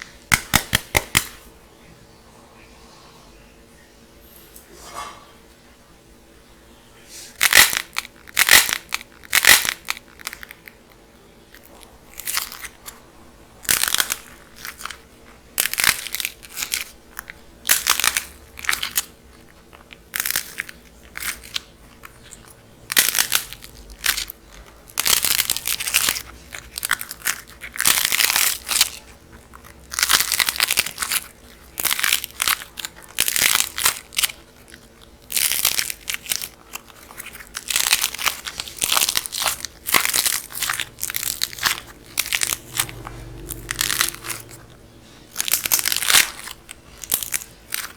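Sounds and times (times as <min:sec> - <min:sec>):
dried clay cracking and crunching: 0:00.0 - 0:01.4, 0:07.3 - 0:47.9.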